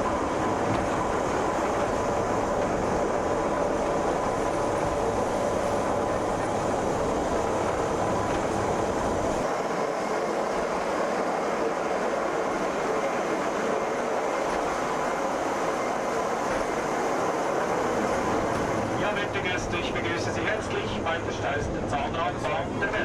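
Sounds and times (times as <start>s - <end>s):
cog railway car running on track: 0.0s - 23.0s.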